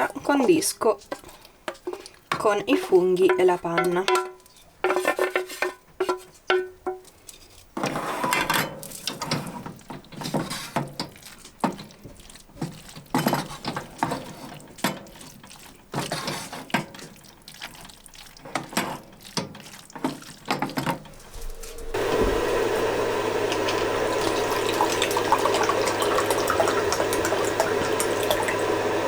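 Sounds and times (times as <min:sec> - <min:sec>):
utensils clinking in a pan: 0:00.9 - 0:29.0.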